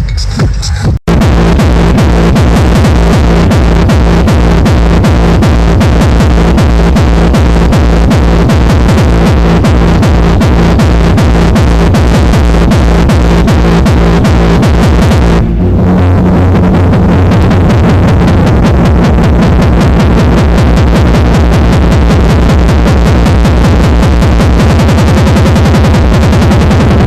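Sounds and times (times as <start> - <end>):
loud techno music: 0.0 - 27.0.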